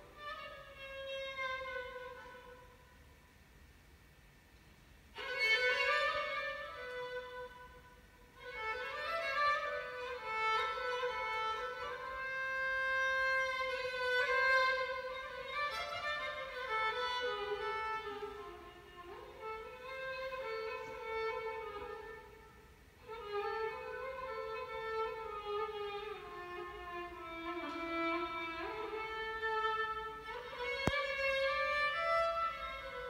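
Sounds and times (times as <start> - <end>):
solo violin improvisation: 0.0 - 3.0, 5.1 - 33.0.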